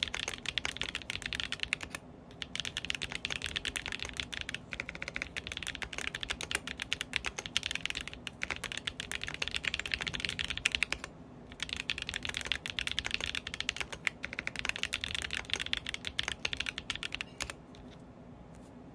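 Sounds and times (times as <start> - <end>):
mechanical keyboard typing: 0.0 - 17.6.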